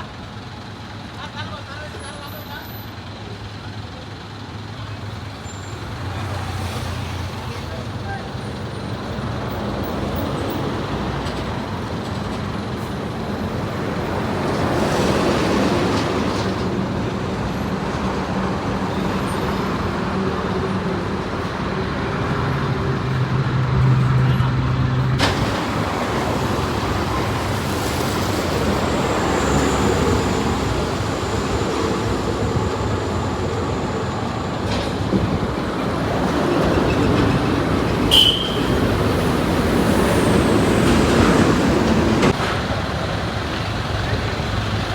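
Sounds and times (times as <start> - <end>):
road traffic: 0.0 - 44.9.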